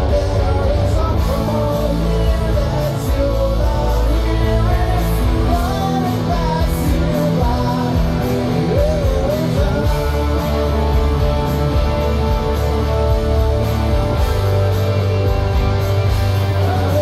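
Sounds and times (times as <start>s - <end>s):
electric guitar chords: 0.0s - 17.0s
man singing rock song: 0.0s - 17.0s.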